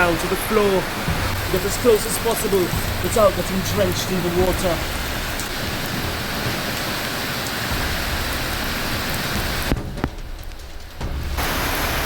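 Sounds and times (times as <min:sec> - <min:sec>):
heavy rain pouring: 0:00.0 - 0:12.0
sharp rain drop taps: 0:00.0 - 0:12.0.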